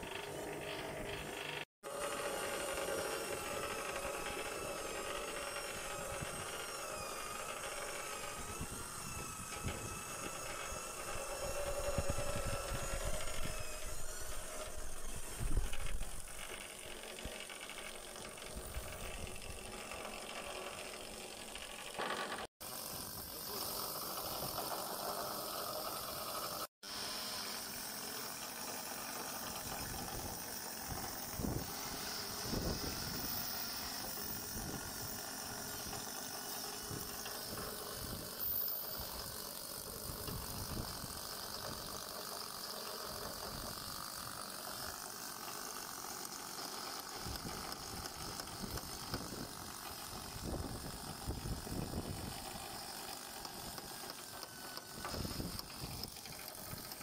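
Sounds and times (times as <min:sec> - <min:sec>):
steady mechanical noise: 0:00.0 - 0:57.0.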